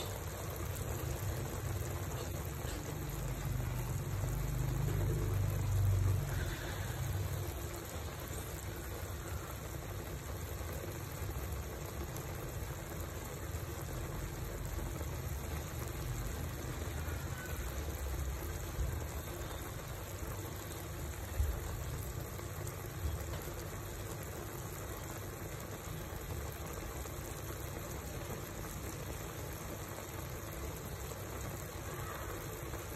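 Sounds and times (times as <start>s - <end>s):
sauce bubbling in a pot: 0.0s - 32.9s.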